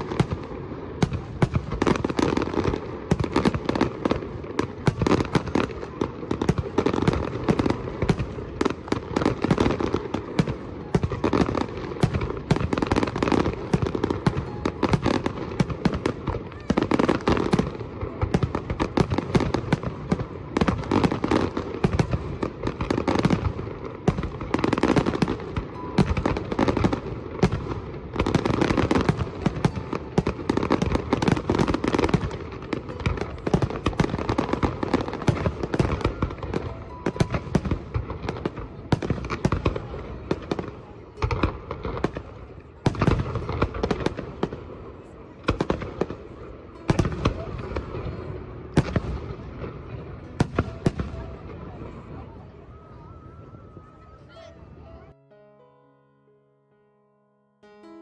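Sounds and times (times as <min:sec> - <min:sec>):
fireworks and firecrackers popping: 0:00.0 - 0:54.5.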